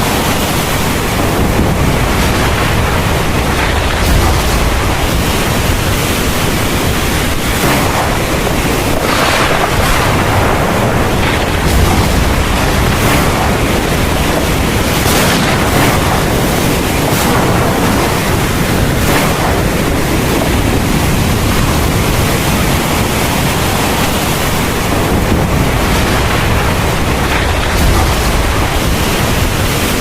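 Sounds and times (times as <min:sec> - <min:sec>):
deep continuous rumble: 0:00.0 - 0:30.0
heavy rain pouring: 0:00.0 - 0:30.0.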